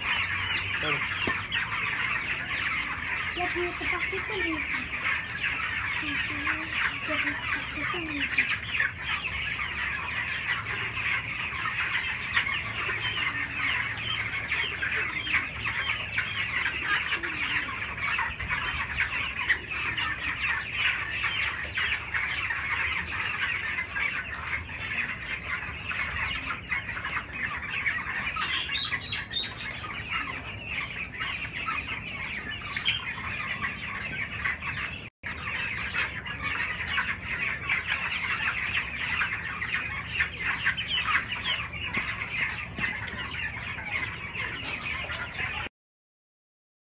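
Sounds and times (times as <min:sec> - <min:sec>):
chicks peeping: 0:00.0 - 0:45.7.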